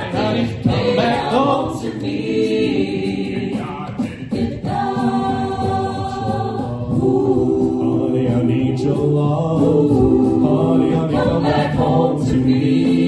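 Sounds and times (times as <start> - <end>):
a cappella harmony singing: 0.0 - 13.0
vocal percussion: 0.0 - 13.0.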